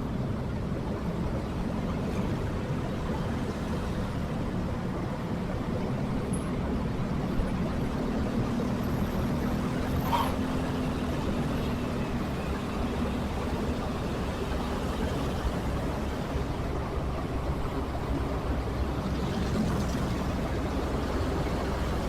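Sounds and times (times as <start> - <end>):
faint engine hum: 0.0 - 22.0
motorcycle riding in traffic: 0.0 - 22.0.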